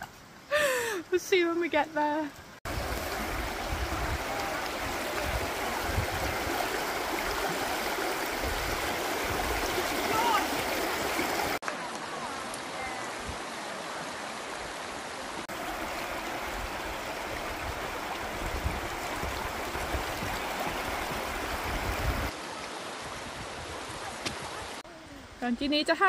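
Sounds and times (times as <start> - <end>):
river rushing over rocks: 2.7 - 24.8.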